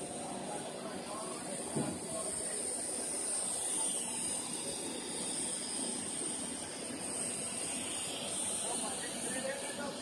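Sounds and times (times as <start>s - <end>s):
high hiss: 0.0s - 10.0s.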